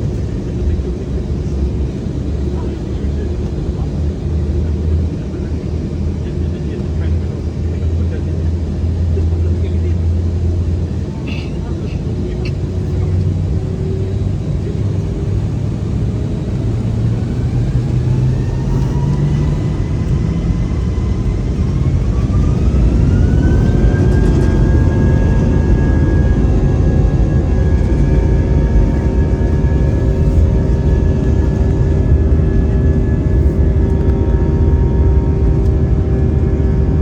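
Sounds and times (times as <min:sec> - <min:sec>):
jet engine whine rising: 0:00.0 - 0:37.0
low jet engine rumble: 0:00.0 - 0:37.0.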